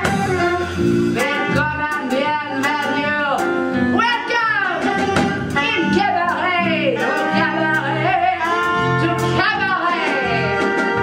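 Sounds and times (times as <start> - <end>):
live band with bass and drums: 0.0 - 11.0
woman singing: 1.2 - 11.0.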